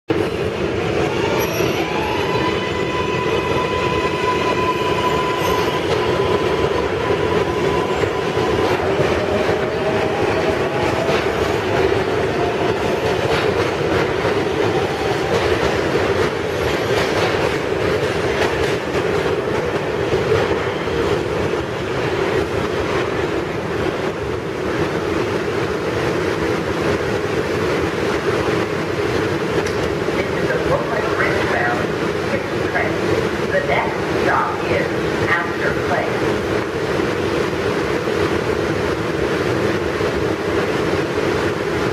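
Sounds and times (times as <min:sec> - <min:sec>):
train wheels rumbling on rail: 0:00.1 - 0:41.9.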